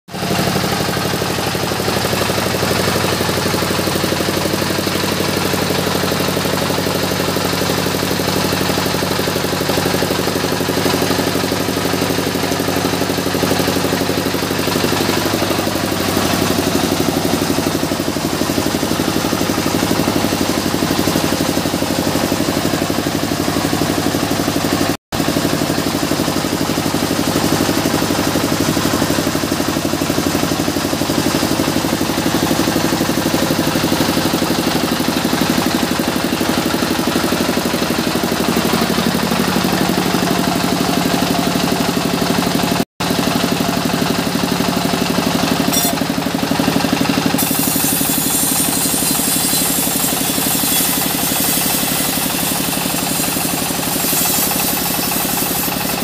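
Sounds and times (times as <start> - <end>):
sawmill engine running: 0.1 - 56.0.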